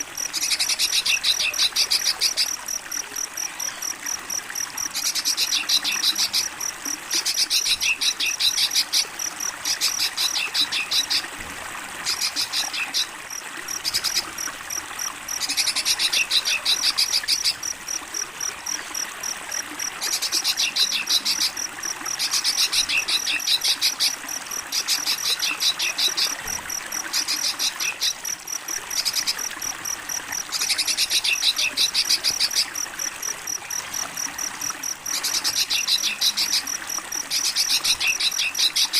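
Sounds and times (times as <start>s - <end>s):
crickets chirping: 0.0s - 38.9s
trickle of running water: 0.0s - 38.9s.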